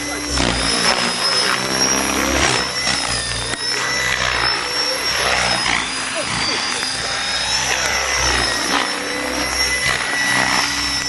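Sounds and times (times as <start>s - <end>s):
low hum: 0.0s - 11.0s
model helicopter rotor whine: 0.0s - 11.0s.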